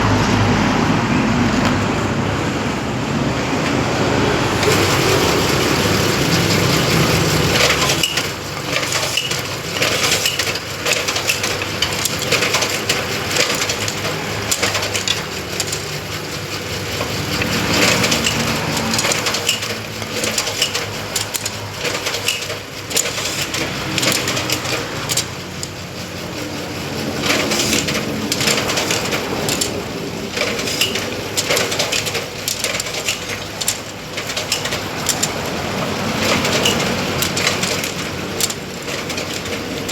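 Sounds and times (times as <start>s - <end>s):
machine motor hum: 0.0s - 39.9s.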